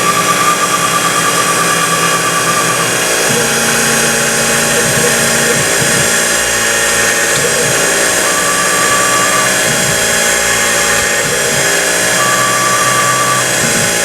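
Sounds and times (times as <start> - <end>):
higher whine: 0.0 - 14.0
milling machine spindle whine: 0.0 - 14.0.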